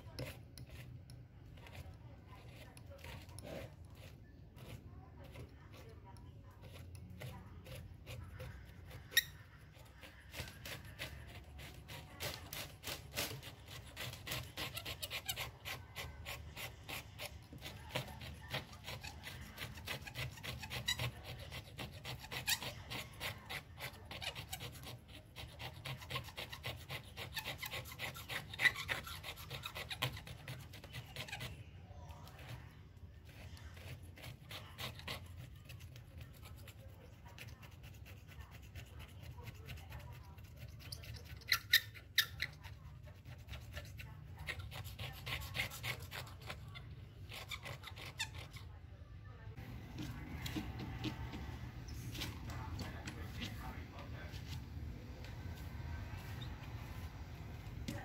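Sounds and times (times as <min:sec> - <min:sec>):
razor blade scraping glass: 0:00.0 - 0:48.8.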